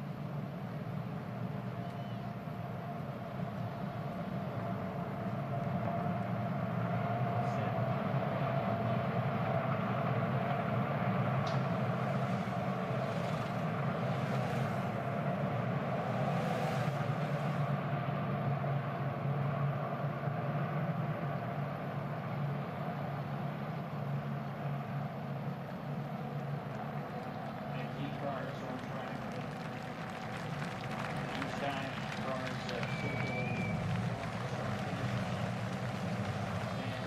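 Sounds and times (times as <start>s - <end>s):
race car engines droning: 0.0s - 37.0s.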